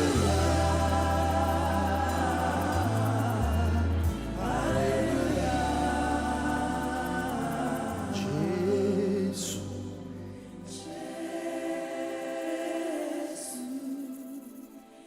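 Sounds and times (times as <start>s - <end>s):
choir singing: 0.0s - 15.0s
sustained accompaniment: 0.0s - 15.0s.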